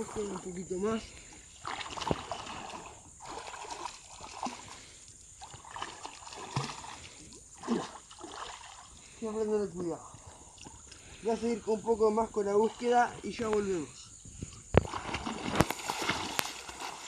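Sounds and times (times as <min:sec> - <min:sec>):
creek water sloshing and splashing: 0:00.0 - 0:17.0.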